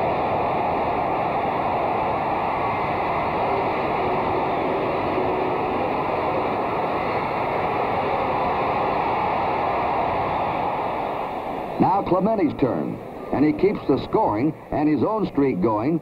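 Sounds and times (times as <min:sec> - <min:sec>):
baseball stadium crowd noise: 0:00.0 - 0:16.0.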